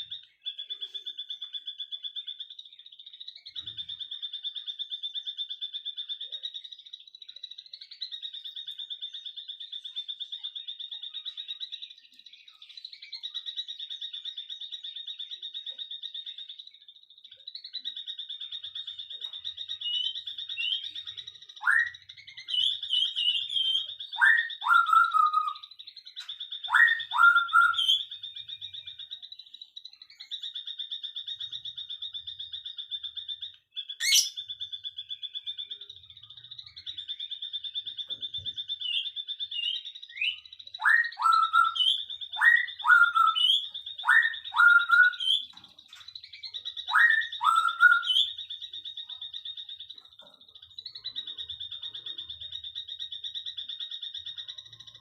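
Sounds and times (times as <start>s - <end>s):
birds whistling: 0.0s - 55.0s.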